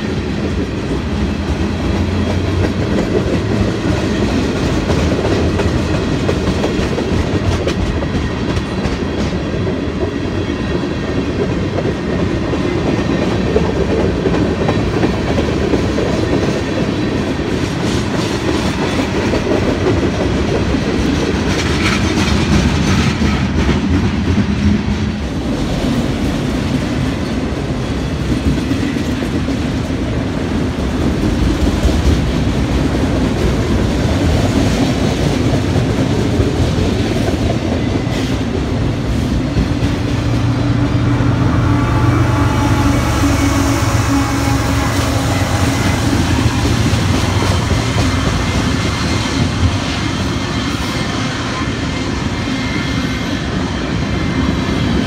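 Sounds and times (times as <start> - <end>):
freight train rolling past: 0.0 - 55.0
steel wheels clattering on rail: 0.0 - 55.0.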